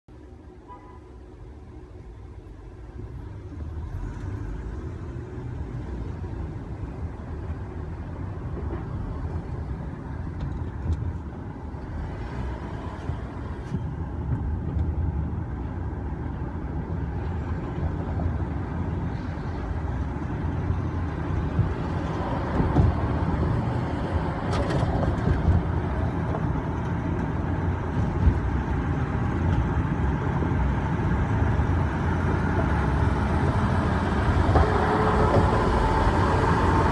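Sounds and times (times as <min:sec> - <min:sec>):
car engine and road rumble: 0:00.1 - 0:36.9.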